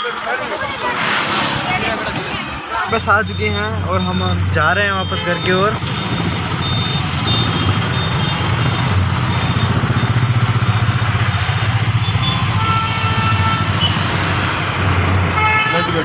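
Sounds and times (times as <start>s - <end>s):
bus engine rumble: 0.0s - 16.0s
road noise: 0.0s - 16.0s.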